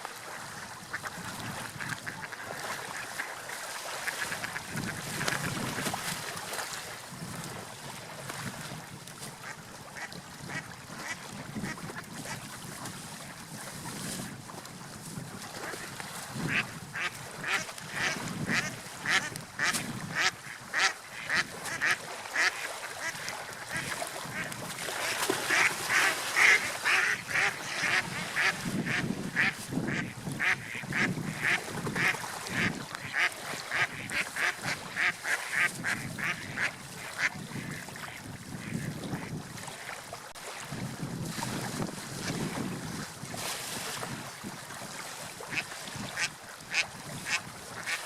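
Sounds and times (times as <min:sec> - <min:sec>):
surf: 0:00.0 - 0:48.0
wind: 0:00.0 - 0:48.0.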